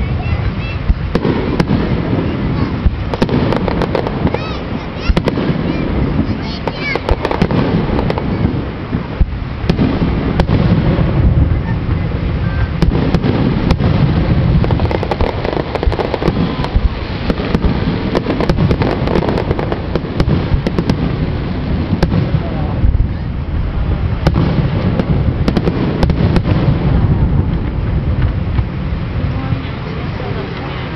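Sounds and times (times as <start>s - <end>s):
firework bangs and crackles: 0.0s - 30.9s
low rumble of firework booms: 0.0s - 30.9s.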